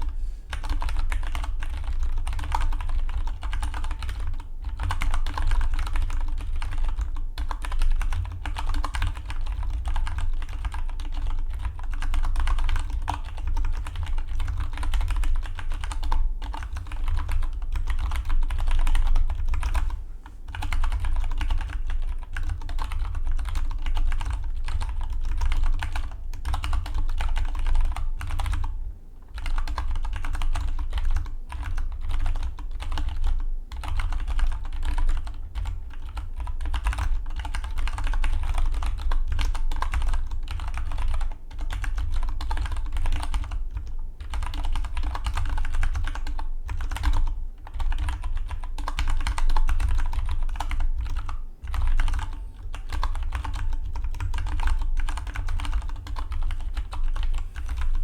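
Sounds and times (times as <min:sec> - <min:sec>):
fast mechanical keyboard typing: 0:00.5 - 0:58.0.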